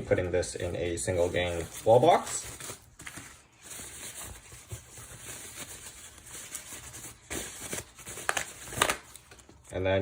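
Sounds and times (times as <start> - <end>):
packaging rustling: 0.5 - 9.7.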